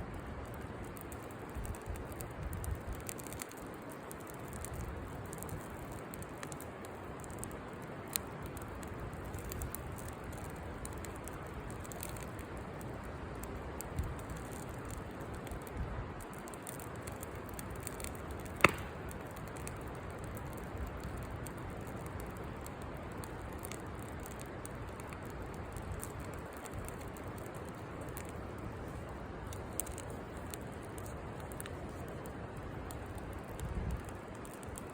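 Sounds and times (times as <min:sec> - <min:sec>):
campfire crackling: 0:00.0 - 0:34.9
sharp pops of burning wood: 0:00.1 - 0:34.9.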